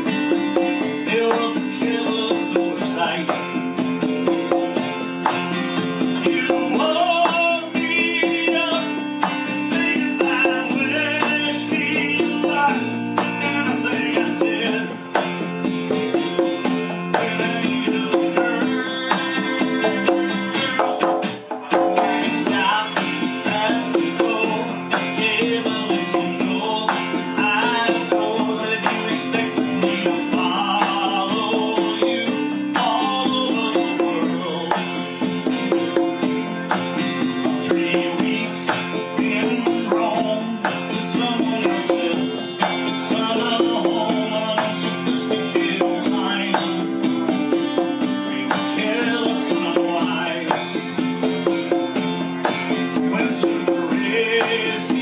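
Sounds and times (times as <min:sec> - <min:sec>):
acoustic guitar song with bass: 0:00.0 - 0:55.0
congas played by hand: 0:00.0 - 0:55.0.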